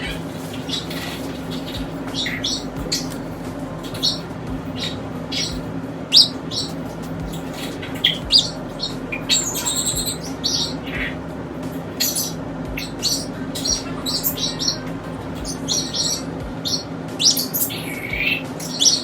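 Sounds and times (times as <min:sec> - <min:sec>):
pet birds chirping: 0:00.0 - 0:11.2, 0:11.9 - 0:19.0
low steady hum: 0:00.0 - 0:19.0.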